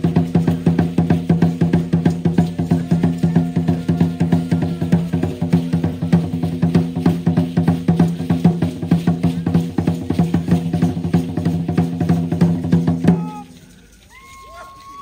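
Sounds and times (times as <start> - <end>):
fast drumbeat: 0.0 - 13.5.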